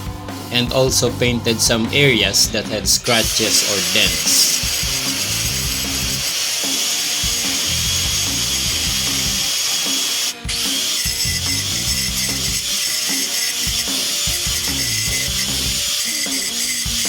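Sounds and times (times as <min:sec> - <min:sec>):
power tool grinding metal: 0:01.6 - 0:17.0.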